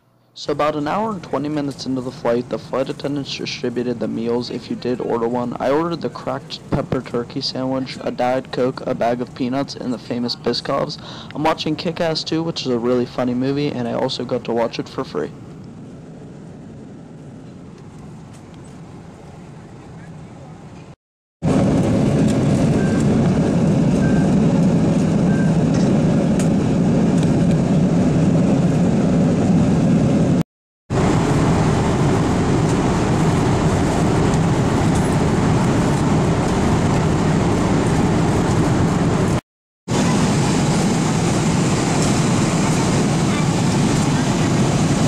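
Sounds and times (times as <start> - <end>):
airliner cabin jet engine rush: 0.4 - 45.0.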